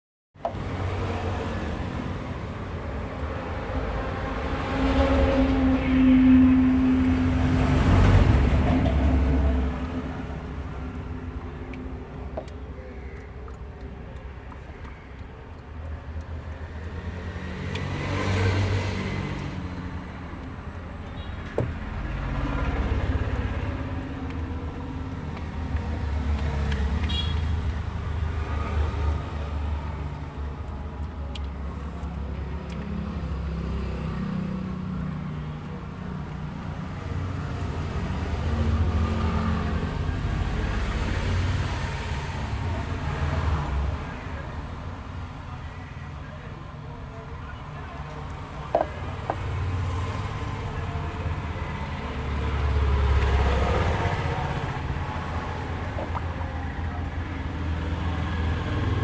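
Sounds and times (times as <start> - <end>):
passing traffic rumble: 0.4 - 59.0.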